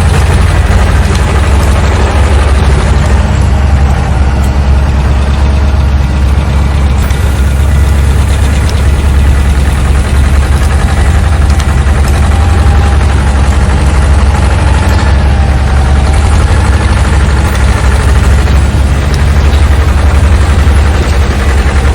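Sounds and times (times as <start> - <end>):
heavy diesel engine throbbing: 0.0 - 21.9.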